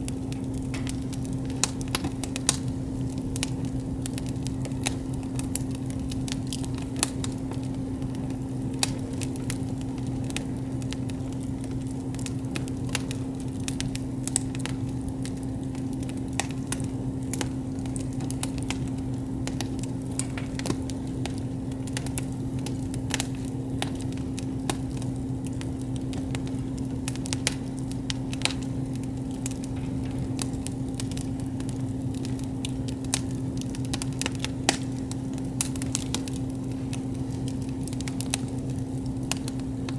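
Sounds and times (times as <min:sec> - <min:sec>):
campfire crackling: 0:00.0 - 0:39.9
fire popping: 0:00.0 - 0:39.9
steady low hum: 0:00.0 - 0:39.9.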